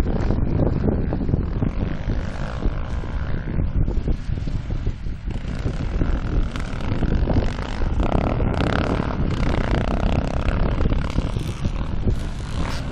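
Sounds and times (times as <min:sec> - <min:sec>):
dirt bike engines revving: 0:00.0 - 0:12.9
wind rumbling on microphone: 0:00.0 - 0:12.9.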